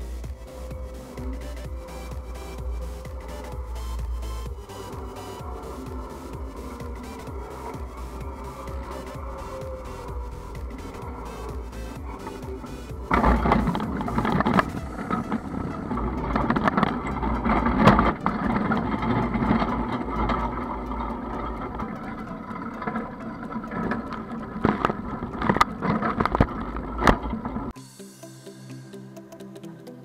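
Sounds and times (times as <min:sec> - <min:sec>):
cultivator churning through soil: 0:00.0 - 0:27.8
background music: 0:00.0 - 0:30.0.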